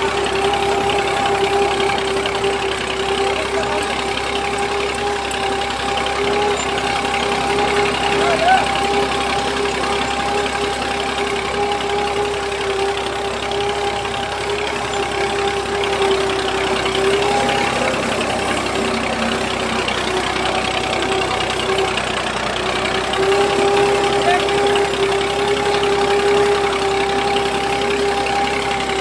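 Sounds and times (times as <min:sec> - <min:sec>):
engine humming steadily: 0:00.0 - 0:29.0.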